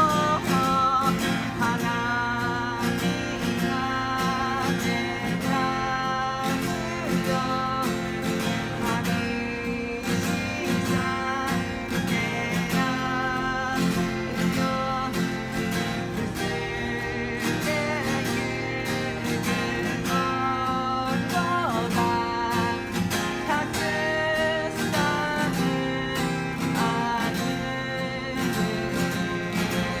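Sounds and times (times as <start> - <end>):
person singing with vibrato: 0.0 - 30.0
strummed acoustic guitar: 0.0 - 30.0.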